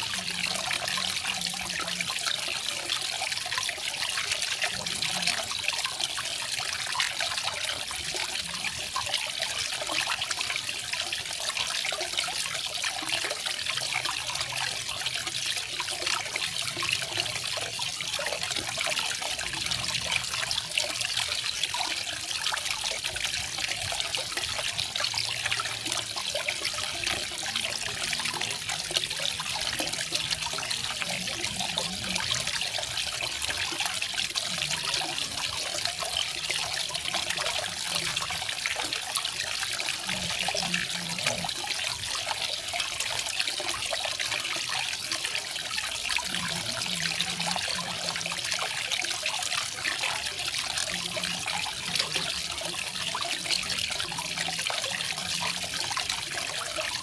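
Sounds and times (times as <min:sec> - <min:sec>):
waterfall splashing and trickling: 0:00.0 - 0:57.0.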